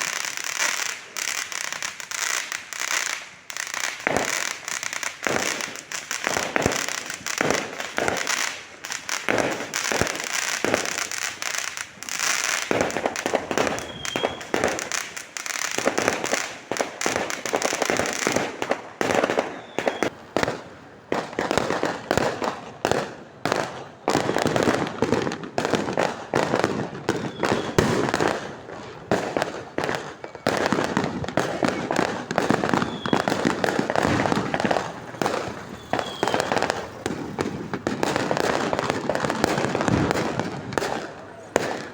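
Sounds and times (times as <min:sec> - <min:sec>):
fireworks cracks and bangs: 0:00.0 - 0:41.9.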